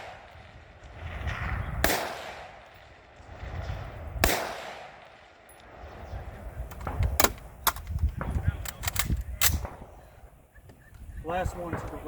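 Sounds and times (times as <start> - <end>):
gunshots with rolling echo: 0.0 - 10.4, 11.3 - 12.0.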